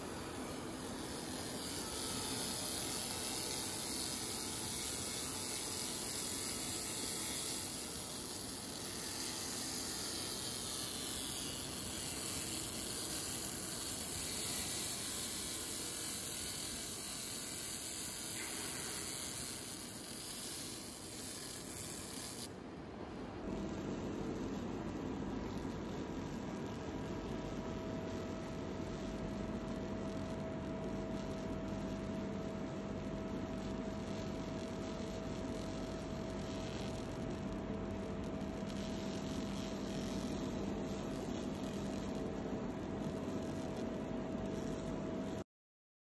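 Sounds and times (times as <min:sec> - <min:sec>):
laser cleaner hissing and crackling: 0:00.0 - 0:22.5, 0:23.2 - 0:45.4.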